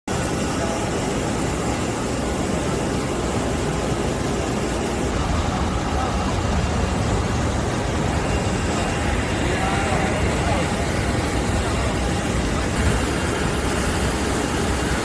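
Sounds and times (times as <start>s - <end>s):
aircraft and ground vehicles running: 0.1s - 15.0s.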